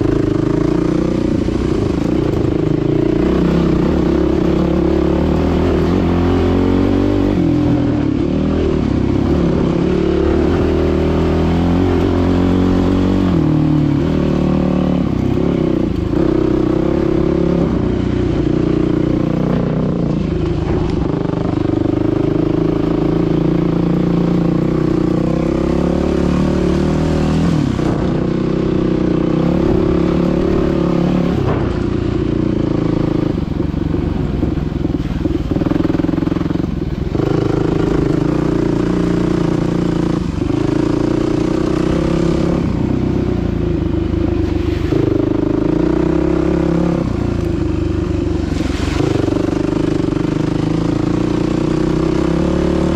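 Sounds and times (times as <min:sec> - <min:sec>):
dirt bike engine revving: 0:00.0 - 0:33.6, 0:35.0 - 0:43.4, 0:44.0 - 0:52.9.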